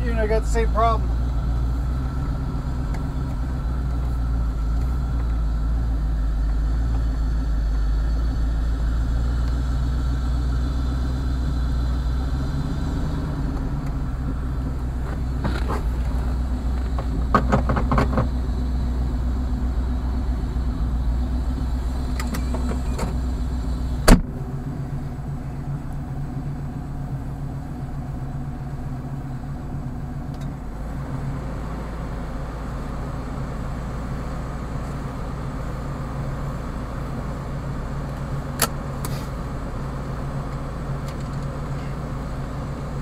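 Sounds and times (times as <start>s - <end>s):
car engine running at low revs: 0.0s - 43.0s.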